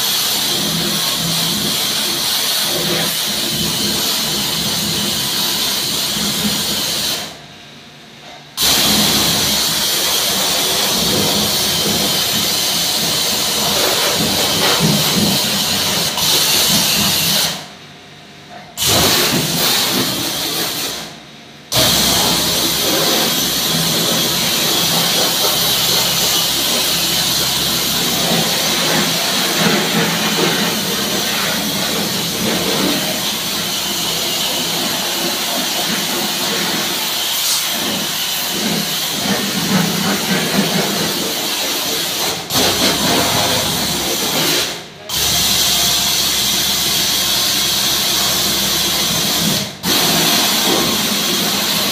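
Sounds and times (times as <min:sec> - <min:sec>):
pressure washer spraying water: 0:00.0 - 0:07.4, 0:08.6 - 0:17.7, 0:18.8 - 0:51.9
pressure washer pump hum: 0:00.0 - 0:51.9.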